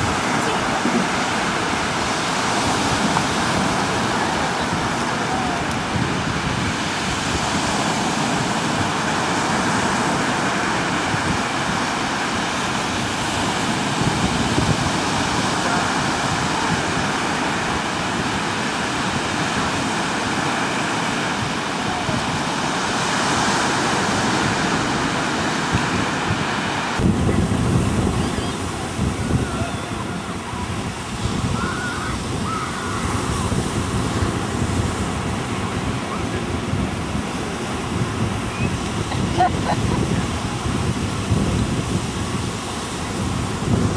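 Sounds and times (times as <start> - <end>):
ocean surf washing: 0.0 - 43.9
wind rumbling on microphone: 0.0 - 43.9.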